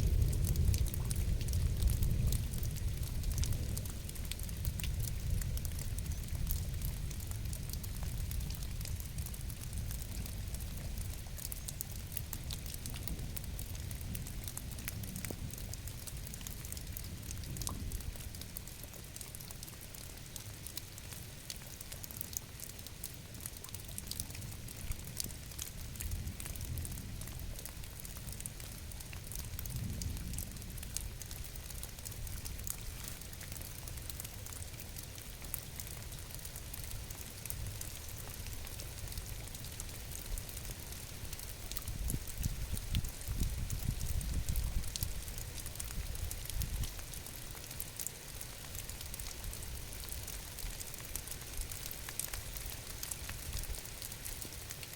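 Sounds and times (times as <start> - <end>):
rain drops ticking: 0.0 - 54.9.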